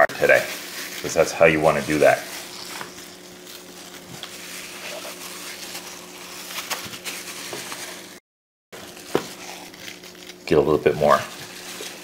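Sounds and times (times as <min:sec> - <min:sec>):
gloved hand rubbing meat: 0:00.2 - 0:08.2, 0:08.8 - 0:12.0.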